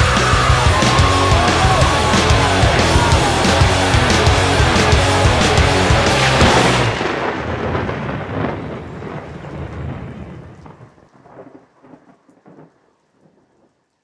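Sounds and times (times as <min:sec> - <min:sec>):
heavy rain: 0:00.0 - 0:13.1
thunder rumbling: 0:00.0 - 0:13.4
thunder crackles: 0:00.0 - 0:13.8.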